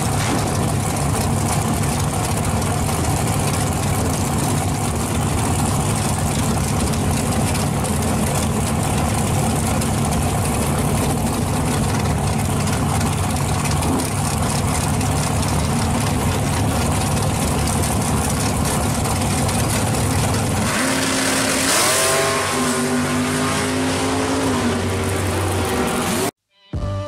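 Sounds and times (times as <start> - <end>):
drag car engine idling and accelerating: 0.0 - 26.3.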